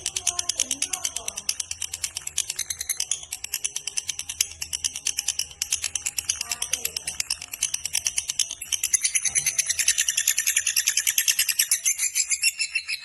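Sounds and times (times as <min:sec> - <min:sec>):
bird chattering high chirps: 0:00.0 - 0:13.0.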